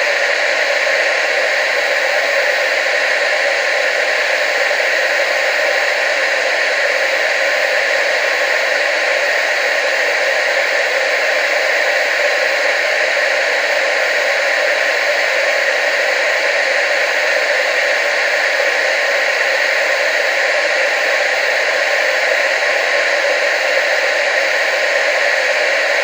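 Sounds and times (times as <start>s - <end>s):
television static hiss: 0.0s - 26.0s.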